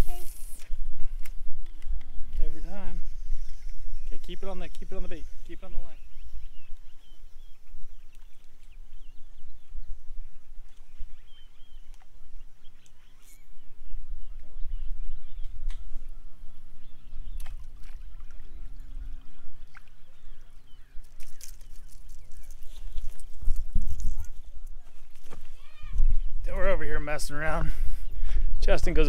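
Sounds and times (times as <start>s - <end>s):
small birds chirping: 1.9s - 29.0s.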